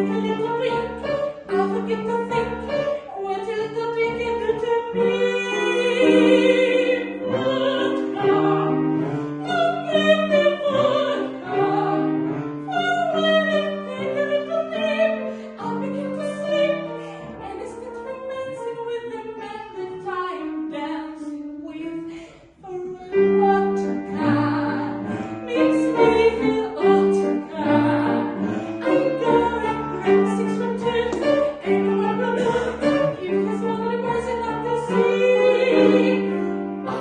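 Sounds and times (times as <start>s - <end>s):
piano: 0.0s - 37.0s
woman singing operatically: 0.0s - 37.0s.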